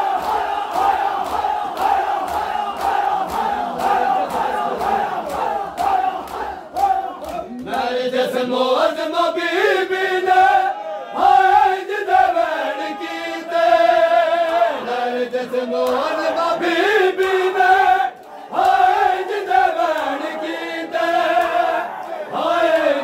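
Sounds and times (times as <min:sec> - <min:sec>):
men chanting together: 0:00.0 - 0:23.0.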